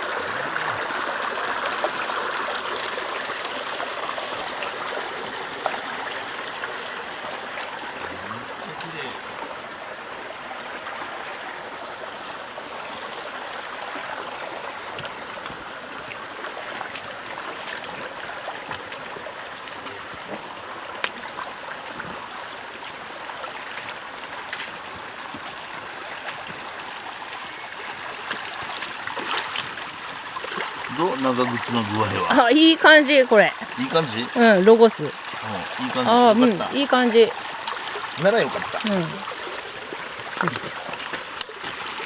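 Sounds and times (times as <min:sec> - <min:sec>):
small stream flowing: 0:00.0 - 0:42.0.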